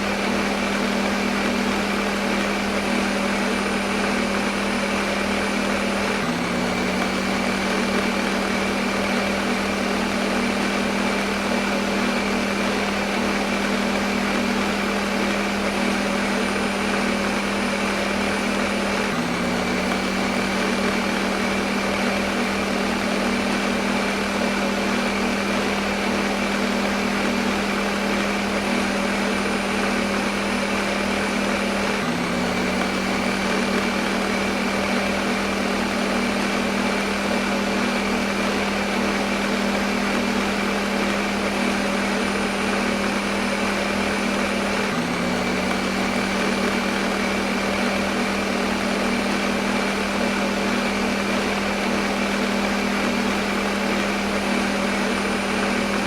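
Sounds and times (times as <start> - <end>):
electric blender running: 0.0 - 56.0.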